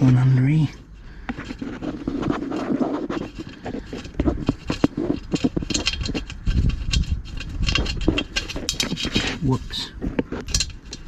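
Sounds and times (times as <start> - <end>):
small metal clicks and scrapes: 0.0 - 11.0.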